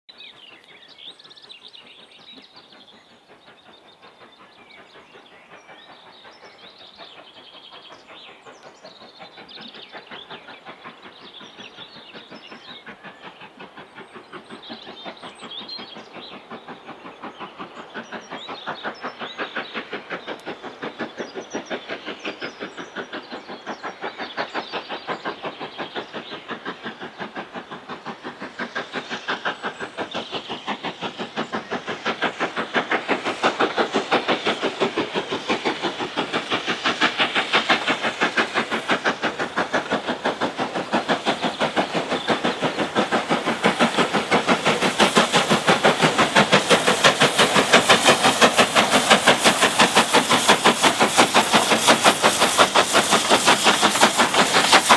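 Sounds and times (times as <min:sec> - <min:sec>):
steam locomotive chuffing: 0:00.1 - 0:54.9
birds chirping: 0:00.2 - 0:54.9.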